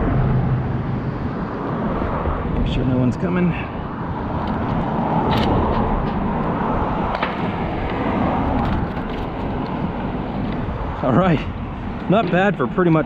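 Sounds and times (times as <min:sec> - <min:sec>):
road traffic rushing: 0:00.0 - 0:13.0.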